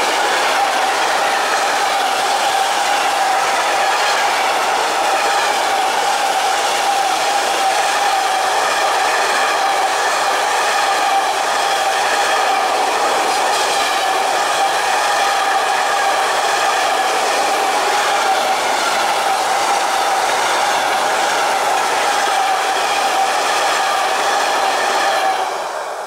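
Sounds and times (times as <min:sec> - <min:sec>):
wheels rushing on rail: 0:00.0 - 0:26.0.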